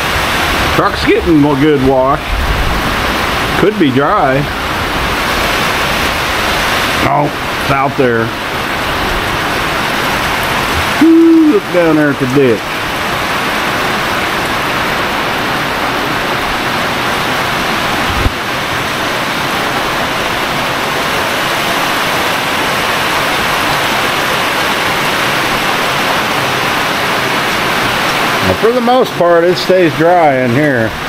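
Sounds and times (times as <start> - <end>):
heavy rain on a metal roof: 0.0 - 31.0.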